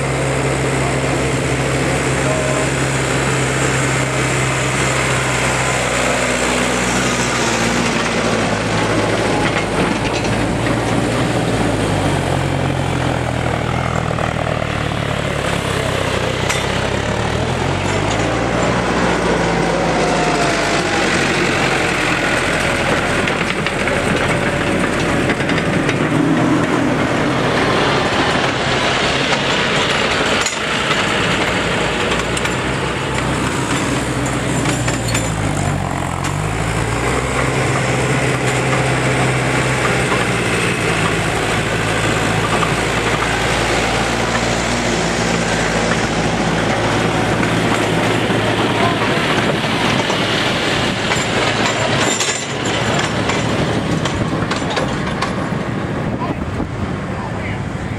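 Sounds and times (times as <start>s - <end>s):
diesel tractor engines running: 0.0s - 57.9s.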